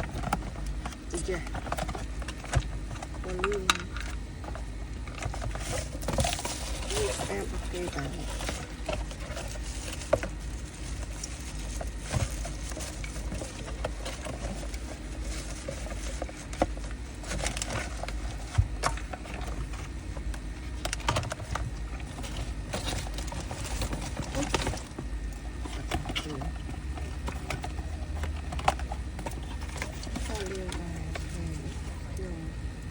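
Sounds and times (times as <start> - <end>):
packaging rustling: 0.0 - 32.9
steady low hum: 0.0 - 32.9.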